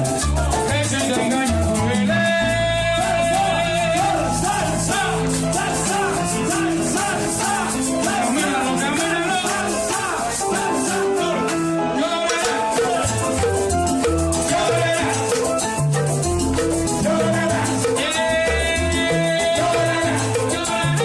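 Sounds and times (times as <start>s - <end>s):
maracas shaking: 0.0s - 21.0s
salsa band playing: 0.0s - 21.0s.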